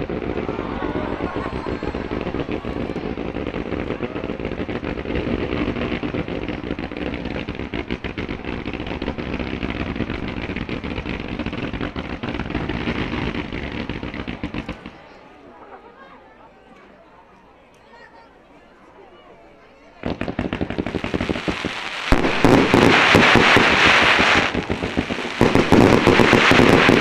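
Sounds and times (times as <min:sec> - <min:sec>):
fireworks crackling: 0:00.0 - 0:15.8, 0:20.0 - 0:27.0.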